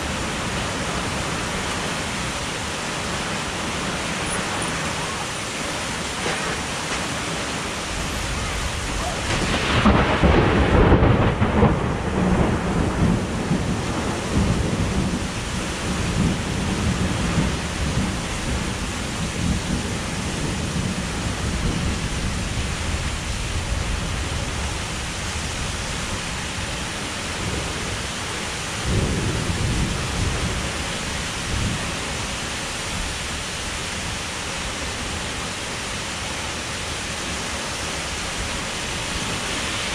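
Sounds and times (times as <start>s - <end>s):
thunder rumbling: 0.0s - 33.4s
heavy rain pouring: 0.0s - 39.9s.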